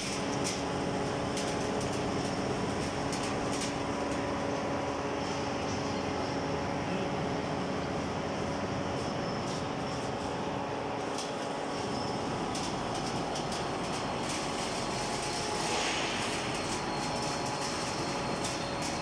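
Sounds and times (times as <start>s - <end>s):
industrial machinery humming: 0.0s - 19.0s.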